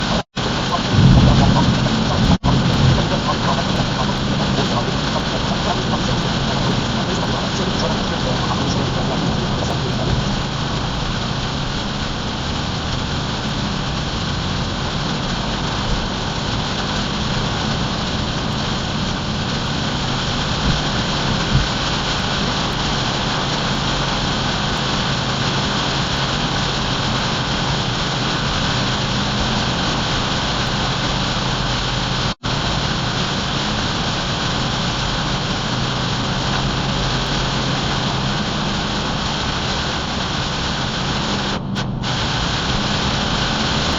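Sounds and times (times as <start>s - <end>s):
car engine hum: 0.0s - 43.9s
rain and wet road hiss: 0.0s - 43.9s.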